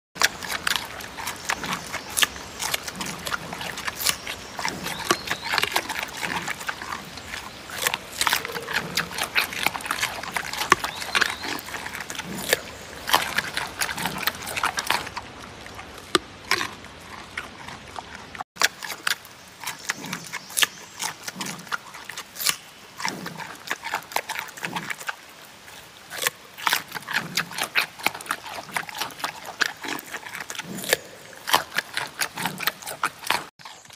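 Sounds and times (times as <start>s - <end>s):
pandas crunching carrots: 0.2s - 33.9s.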